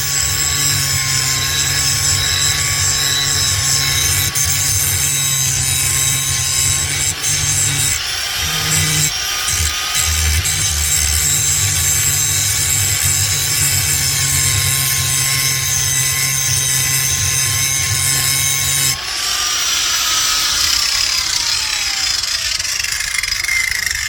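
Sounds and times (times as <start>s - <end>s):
angle grinder grinding steel: 0.0s - 24.0s
grinder motor winding down: 0.0s - 24.0s.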